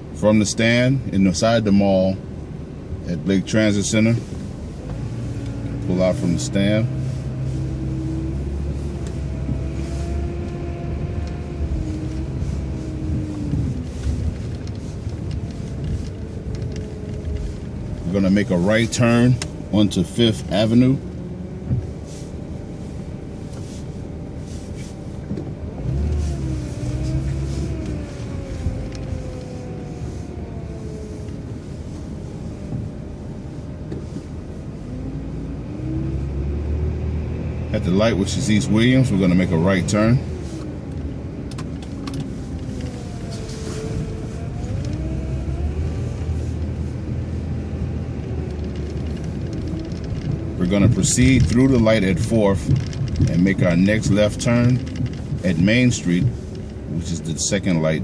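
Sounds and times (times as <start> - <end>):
bus engine running: 1.4 - 58.0.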